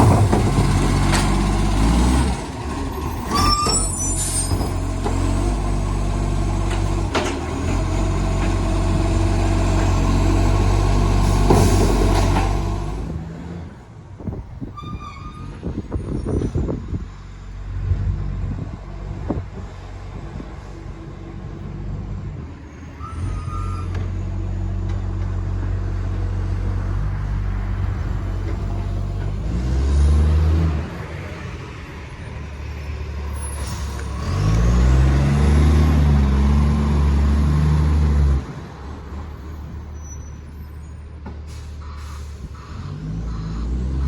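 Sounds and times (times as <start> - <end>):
diesel truck engine idling and revving: 0.0 - 44.0.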